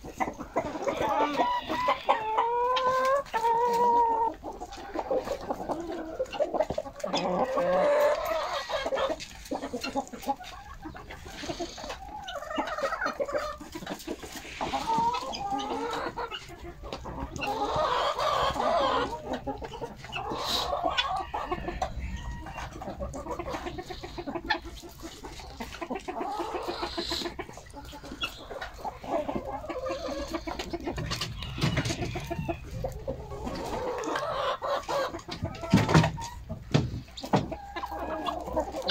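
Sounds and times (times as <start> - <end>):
hens clucking: 0.0 - 38.9.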